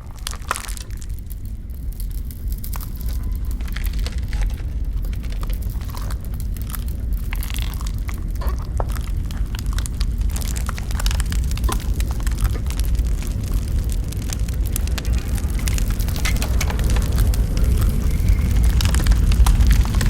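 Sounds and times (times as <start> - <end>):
fire crackling and snapping: 0.0 - 20.0
steady low rumble: 0.0 - 20.0.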